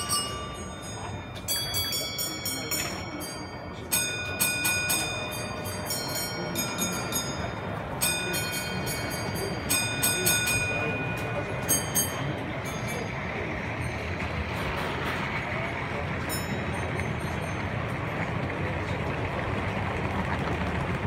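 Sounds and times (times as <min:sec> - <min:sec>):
murmur of exhibition hall: 0:00.0 - 0:21.0.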